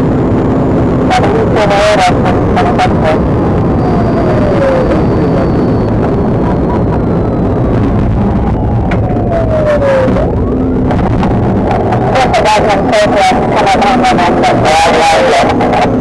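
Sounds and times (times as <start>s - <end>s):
engine and road noise: 0.0s - 16.0s
police siren wailing: 0.5s - 16.0s.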